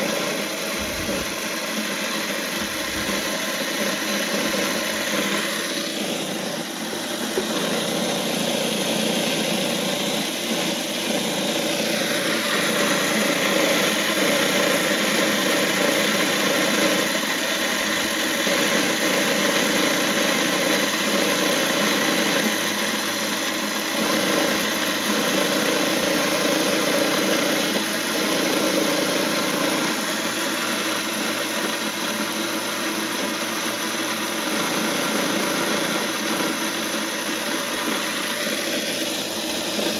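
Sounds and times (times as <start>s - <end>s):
corn grinding: 0.0s - 39.9s
grain mill motor humming: 0.0s - 39.9s.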